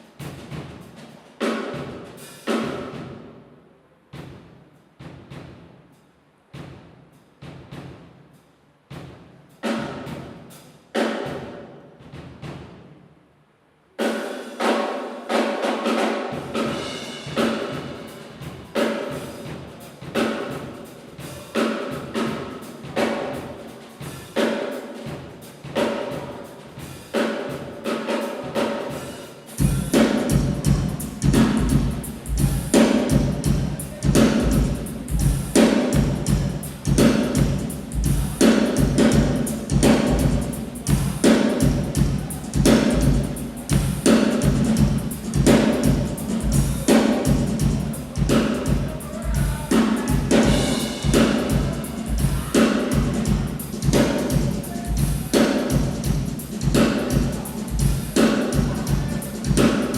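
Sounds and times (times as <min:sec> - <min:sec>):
drum kit playing a groove: 0:00.0 - 0:03.3, 0:14.0 - 0:59.9.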